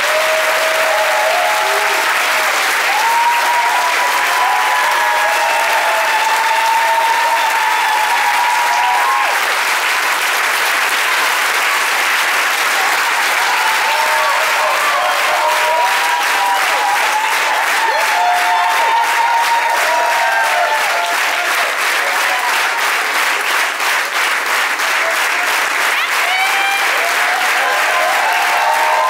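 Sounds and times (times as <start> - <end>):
voices cheering: 0.0 - 9.7, 12.6 - 23.0, 25.0 - 29.0
audience applauding: 0.0 - 29.0.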